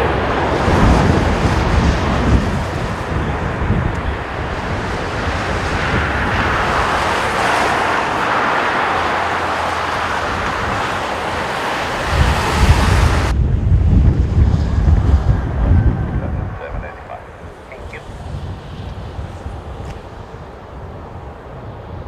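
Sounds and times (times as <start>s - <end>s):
jet engine roar: 0.0s - 22.0s
wind gusts buffeting microphone: 0.0s - 22.0s.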